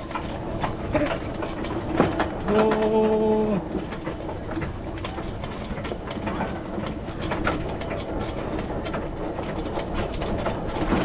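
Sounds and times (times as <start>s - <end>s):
clicks and rattles: 0.0s - 11.0s
wheels rumbling: 0.0s - 11.0s.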